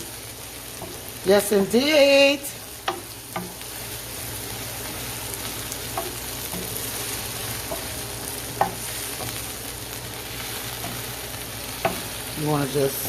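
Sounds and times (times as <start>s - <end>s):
vegetables sizzling in a skillet: 0.0s - 13.0s.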